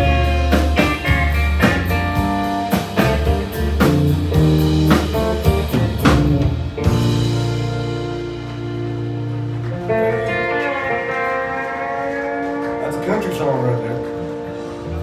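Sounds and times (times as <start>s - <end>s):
acoustic and electric guitars: 0.0s - 15.0s
steady drum beat: 0.0s - 15.0s.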